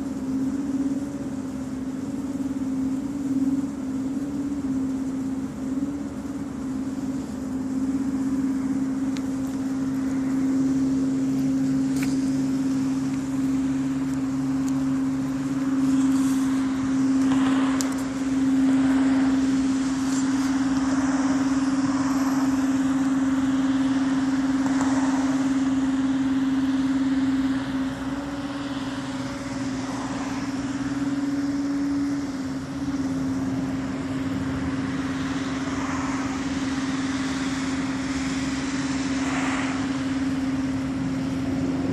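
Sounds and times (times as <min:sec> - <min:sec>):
steady droning hum: 0:00.0 - 0:41.9.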